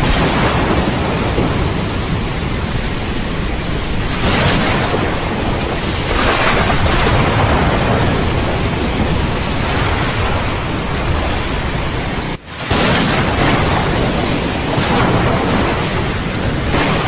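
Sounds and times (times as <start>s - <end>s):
heavy rain: 0.0s - 17.0s
low rumble of thunder: 0.0s - 17.0s.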